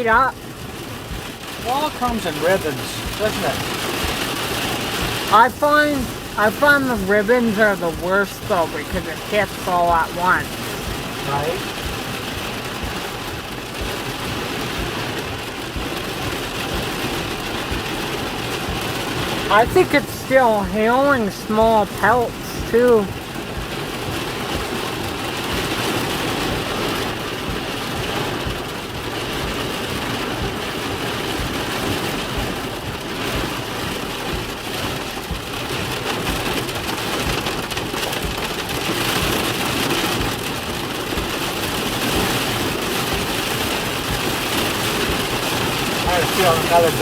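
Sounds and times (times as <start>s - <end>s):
hail pelting down: 0.0s - 47.0s
heavy rain: 0.0s - 47.0s.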